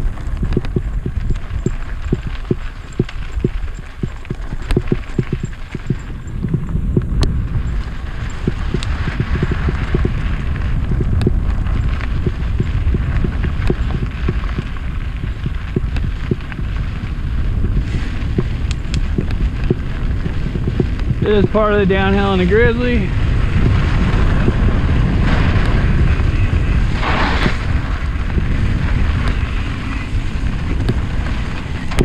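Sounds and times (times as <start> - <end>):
bike rattling over bumps: 0.0 - 32.0
bike tyres rumbling on dirt: 0.0 - 32.0
wind on microphone: 0.0 - 32.0.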